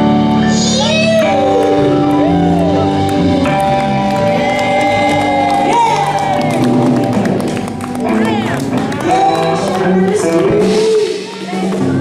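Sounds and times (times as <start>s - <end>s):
background music with sliding melody: 0.0s - 12.0s.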